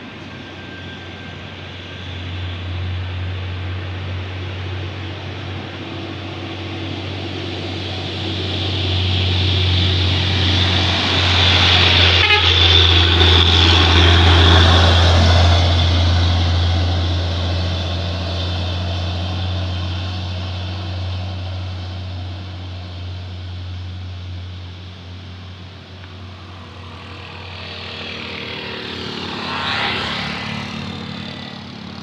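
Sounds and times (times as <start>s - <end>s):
diesel truck passing: 0.8s - 32.0s.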